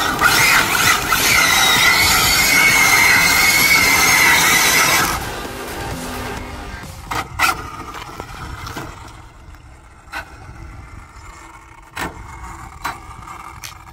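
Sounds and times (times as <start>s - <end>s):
rc car motor and tyre noise: 0.0s - 13.9s.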